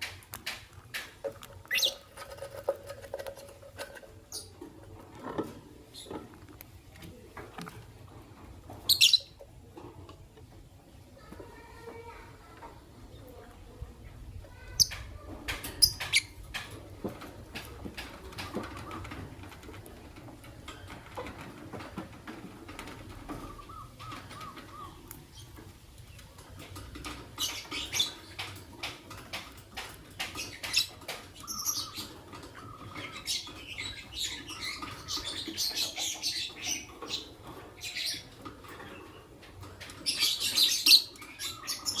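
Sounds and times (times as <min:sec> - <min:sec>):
lovebirds chirping and chattering: 0:00.0 - 0:42.0.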